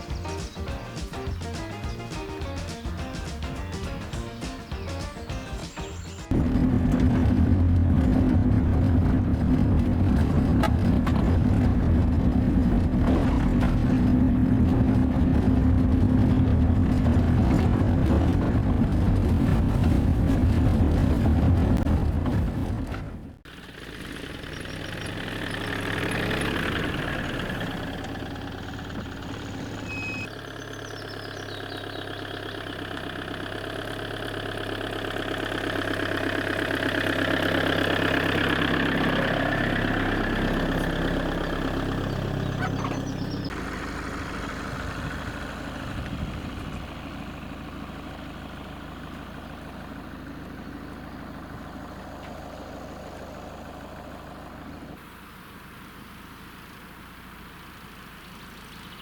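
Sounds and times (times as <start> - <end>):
campervan engine running: 0.0 - 59.0.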